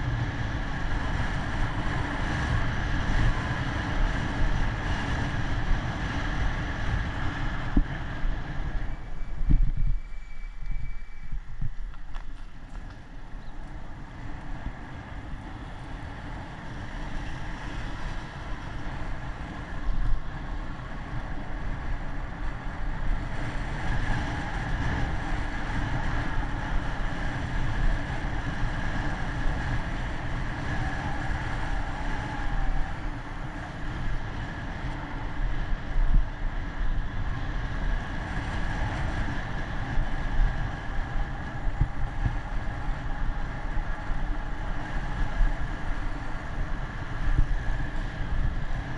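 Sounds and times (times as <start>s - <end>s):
road and traffic noise: 0.0s - 48.9s
wind buffeting microphone: 0.0s - 48.9s.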